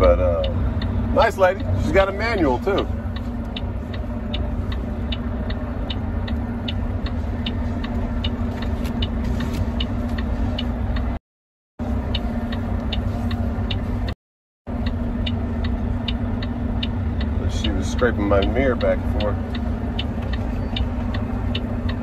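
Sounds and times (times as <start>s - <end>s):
diesel engine idling: 0.0s - 11.2s, 11.8s - 22.0s.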